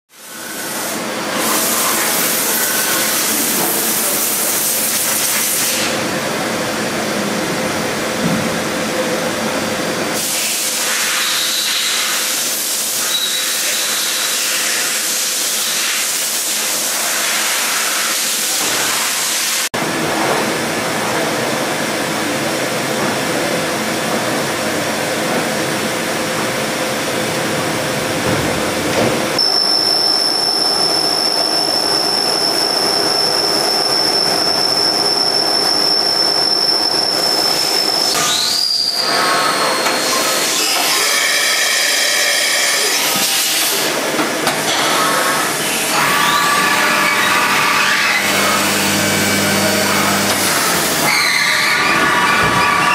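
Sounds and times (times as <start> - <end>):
machine hiss and hum: 0.1 - 52.9.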